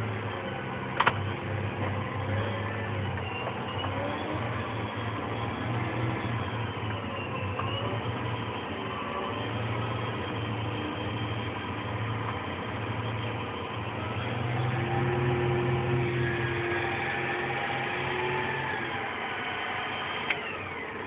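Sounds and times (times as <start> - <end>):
faint whine: 0.0 - 21.0
tractor engine droning: 0.0 - 21.0.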